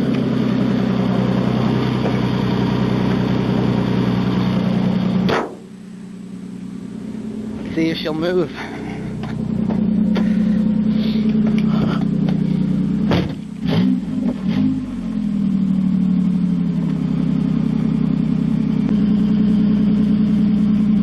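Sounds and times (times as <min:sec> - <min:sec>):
car engine idling loudly: 0:00.0 - 0:21.0
engine clunks: 0:00.0 - 0:21.0.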